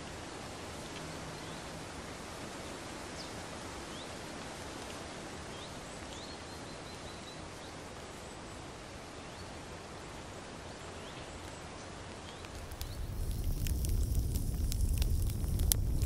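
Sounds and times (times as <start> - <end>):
steady forest hiss: 0.0 - 16.0.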